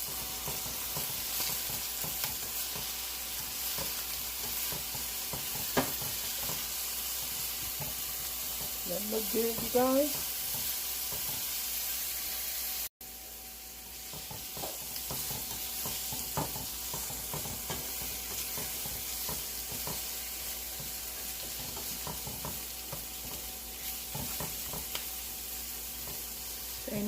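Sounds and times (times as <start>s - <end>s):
vegetables sizzling in a pan: 0.0s - 27.0s.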